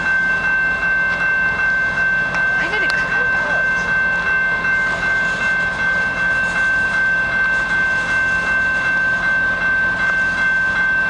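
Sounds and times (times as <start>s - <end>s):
freight train rumbling: 0.0s - 11.0s
level crossing bell ringing: 0.0s - 11.0s.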